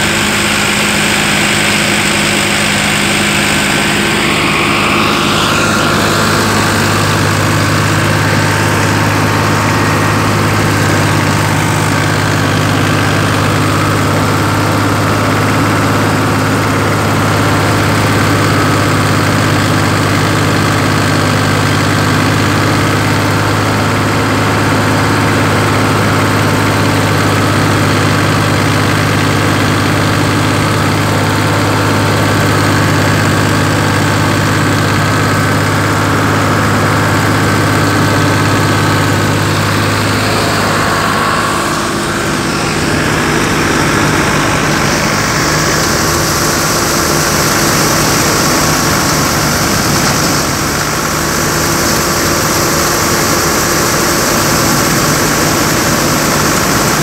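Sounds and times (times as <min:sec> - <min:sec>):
tractor diesel engine drone: 0:00.0 - 0:57.0.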